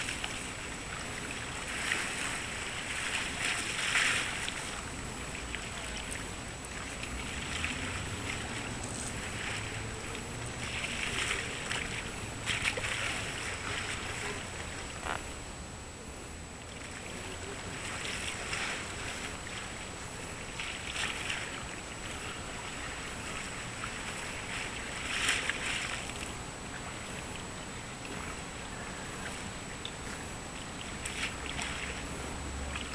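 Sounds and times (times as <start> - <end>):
waves lapping and splashing: 0.0 - 15.2, 16.6 - 32.9
faint high whine: 0.0 - 32.9.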